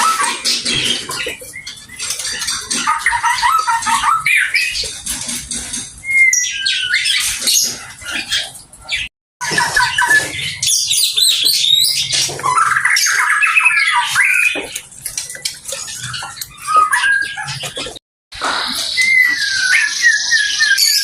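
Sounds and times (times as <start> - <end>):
bird singing varied song: 0.0 - 5.2, 5.9 - 18.0, 18.6 - 21.0.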